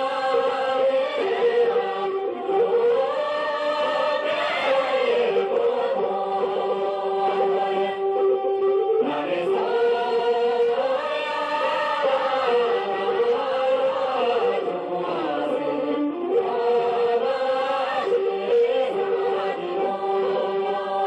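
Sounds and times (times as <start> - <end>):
group singing long held notes: 0.0 - 21.0.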